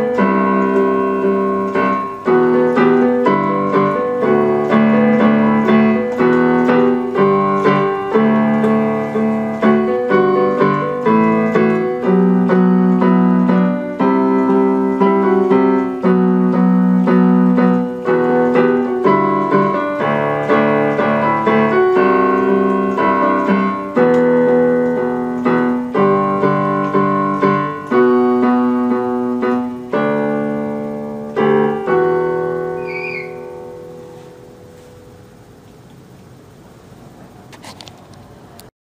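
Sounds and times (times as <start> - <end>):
electronic keyboard chords: 0.0 - 37.4.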